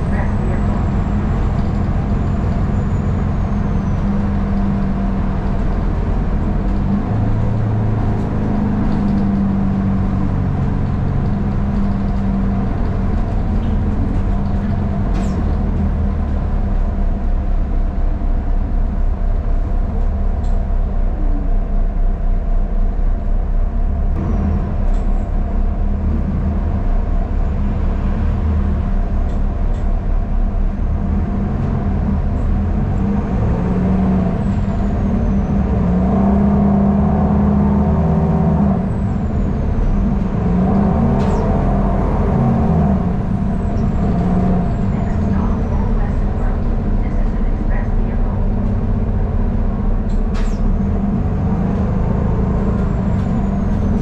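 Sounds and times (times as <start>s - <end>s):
bus engine hum: 0.0s - 54.0s
road noise: 0.0s - 54.0s.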